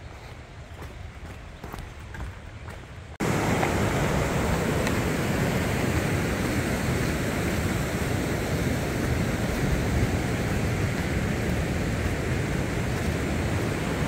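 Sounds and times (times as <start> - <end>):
mountain creek rushing: 0.2 - 14.0.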